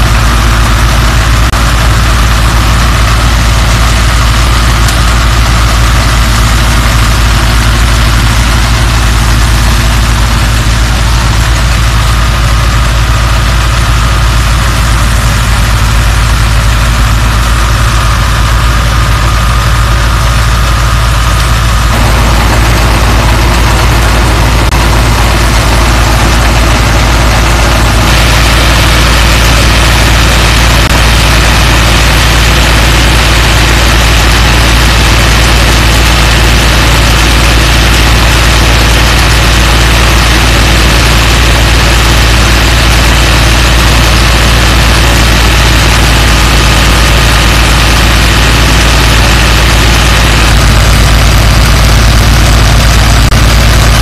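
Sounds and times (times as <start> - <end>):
tractor engine and thresher running: 0.0 - 54.0.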